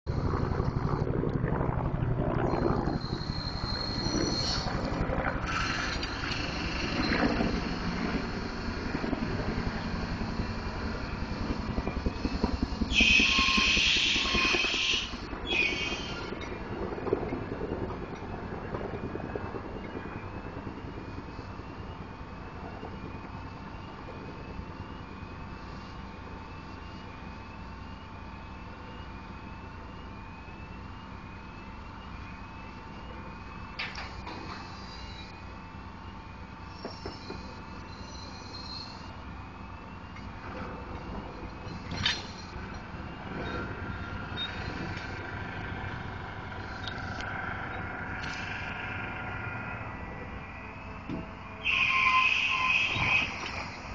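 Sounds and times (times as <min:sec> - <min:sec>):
crane machinery running: 0:00.1 - 0:53.9.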